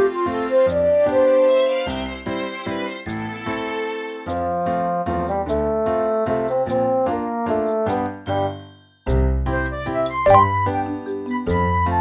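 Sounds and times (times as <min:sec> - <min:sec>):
light melody: 0:00.0 - 0:12.0.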